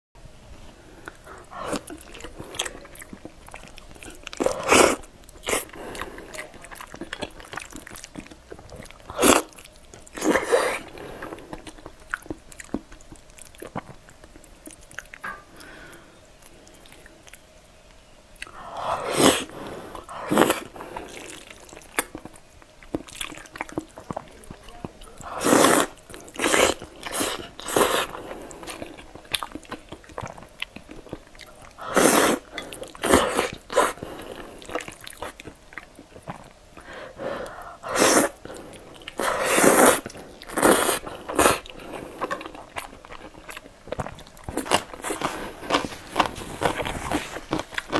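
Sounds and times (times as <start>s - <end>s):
wet chewing and biting: 1.0s - 17.4s, 18.4s - 47.9s.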